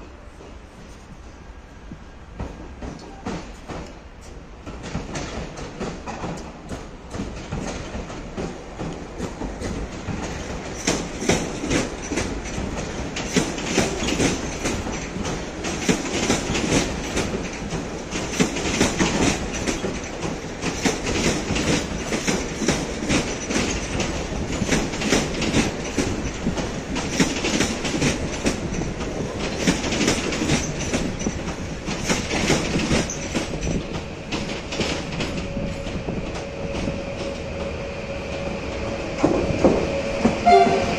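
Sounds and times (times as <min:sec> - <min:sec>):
train wheels clattering over rail joints: 0:02.3 - 0:40.9.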